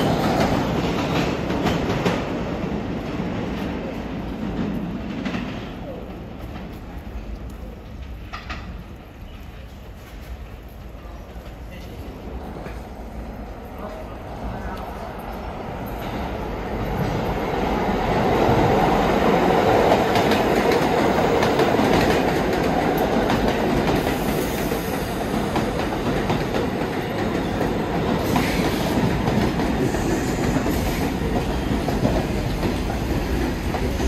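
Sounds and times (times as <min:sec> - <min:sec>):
subway train wheels clicking: 0:00.0 - 0:34.0.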